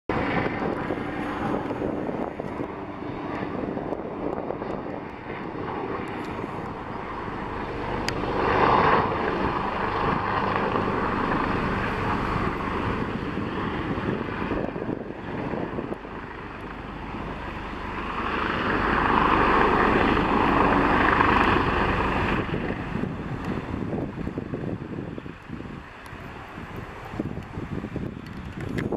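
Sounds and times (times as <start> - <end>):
helicopter rotors and engines: 0.1 - 28.9.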